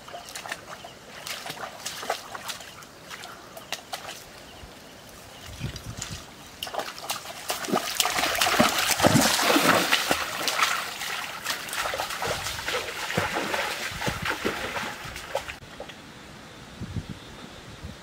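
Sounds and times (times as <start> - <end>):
stream trickling over stones: 0.0 - 15.8
footsteps splashing in stream: 0.0 - 16.0.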